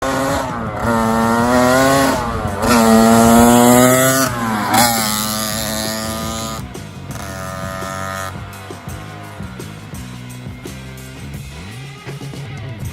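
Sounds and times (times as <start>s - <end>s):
motorbike engine revving: 0.0s - 11.8s.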